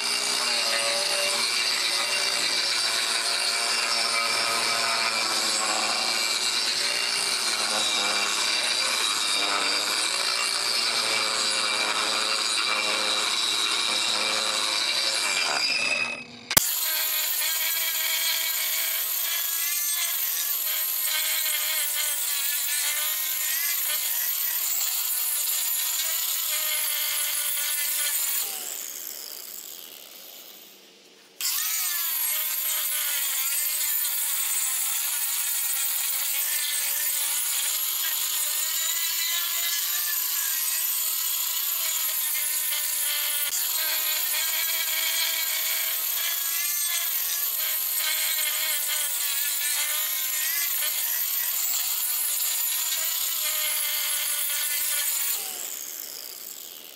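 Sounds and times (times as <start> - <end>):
angle grinder grinding wood: 0.0 - 56.9.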